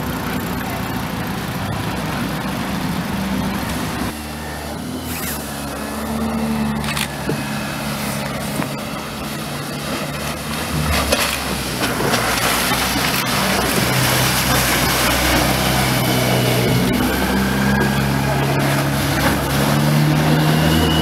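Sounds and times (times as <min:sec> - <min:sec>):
outboard motor running: 0:00.0 - 0:21.0
water rushing and spray: 0:00.0 - 0:21.0.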